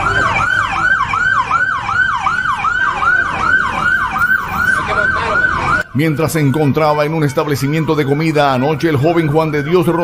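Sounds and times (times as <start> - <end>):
electronic siren yelping: 0.0 - 10.0.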